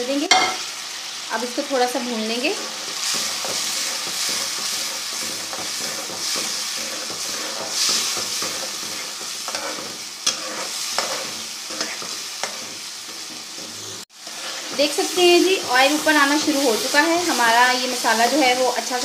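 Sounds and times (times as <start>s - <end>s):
curry sizzling in hot oil: 0.0s - 19.0s
scraping around pan: 2.6s - 18.4s.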